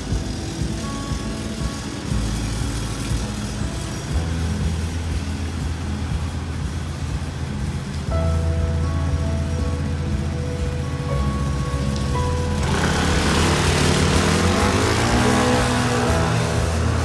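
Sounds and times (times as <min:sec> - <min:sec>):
traffic engine rumble: 0:00.0 - 0:17.0.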